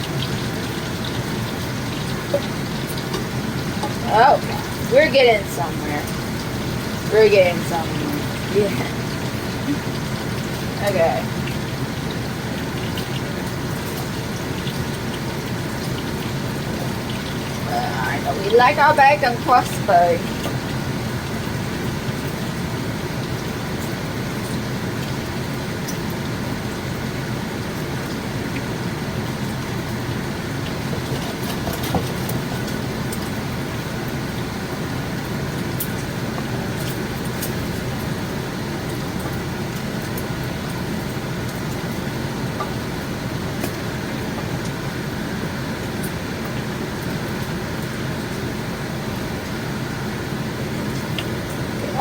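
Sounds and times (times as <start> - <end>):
bacon sizzling in a pan: 0.0 - 52.0
kitchen exhaust fan whir: 0.0 - 52.0.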